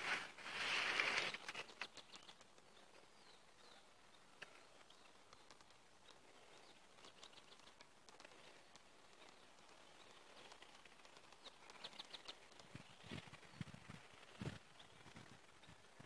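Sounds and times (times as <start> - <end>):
dry grass and leaves rustling: 0.0 - 16.0
light crackles: 0.0 - 16.0
faint bird chirps: 0.7 - 16.0.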